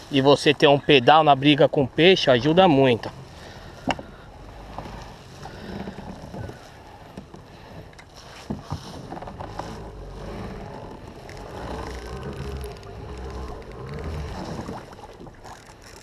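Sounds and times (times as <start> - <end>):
water washing against kayak hull: 0.0 - 16.0.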